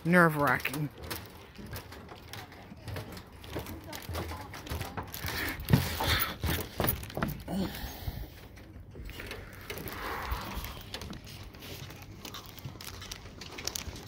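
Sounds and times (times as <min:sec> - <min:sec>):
footsteps on walkway decking: 0:00.0 - 0:13.6.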